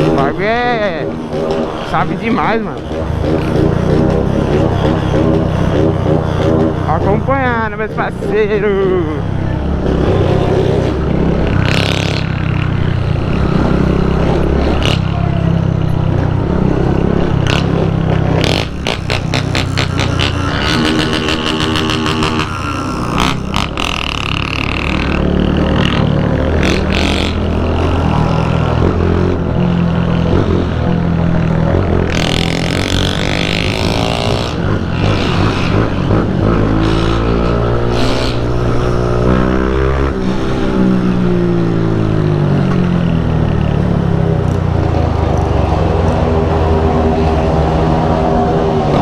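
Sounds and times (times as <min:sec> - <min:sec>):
motorcycle engine running: 0:00.0 - 0:49.0
other motorcycles: 0:00.0 - 0:49.0.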